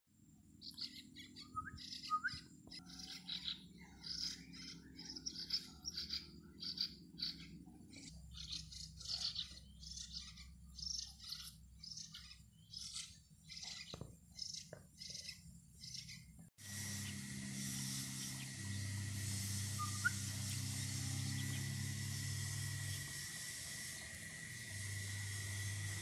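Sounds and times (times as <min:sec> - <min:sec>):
nestling birds begging chirps: 0:00.2 - 0:26.0.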